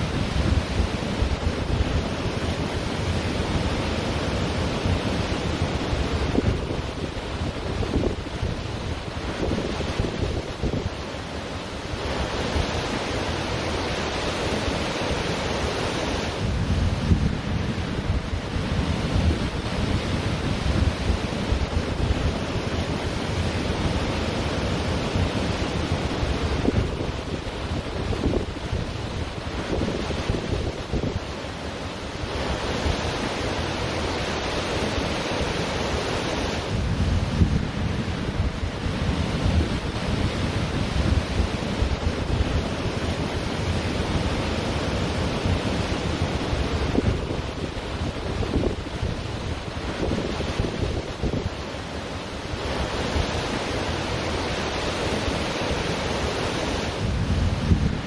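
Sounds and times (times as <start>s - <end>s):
wind buffeting microphone: 0.0s - 11.0s, 16.2s - 31.4s, 36.3s - 51.7s, 52.5s - 58.0s
ocean surf washing: 0.0s - 58.0s.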